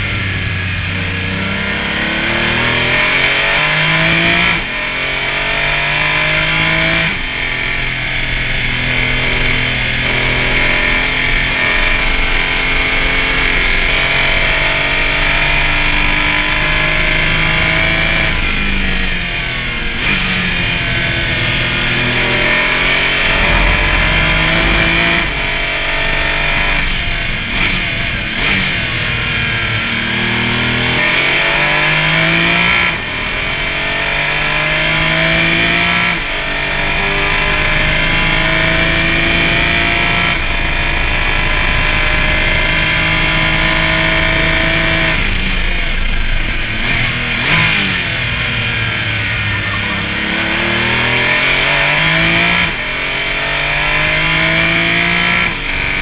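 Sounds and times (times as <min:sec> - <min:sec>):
race car engine revving through gears: 0:00.0 - 0:56.0
road and wind noise: 0:00.0 - 0:56.0.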